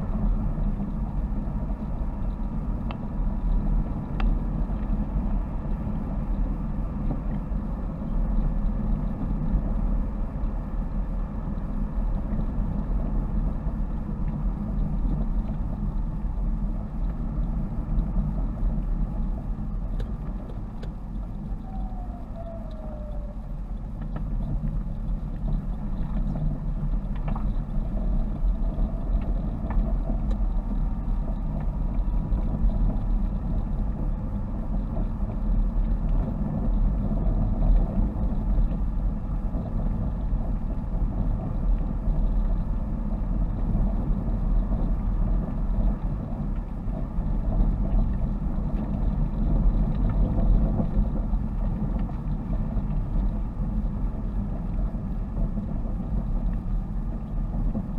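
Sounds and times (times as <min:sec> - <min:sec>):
car engine and tyre drone: 0:00.0 - 0:57.9.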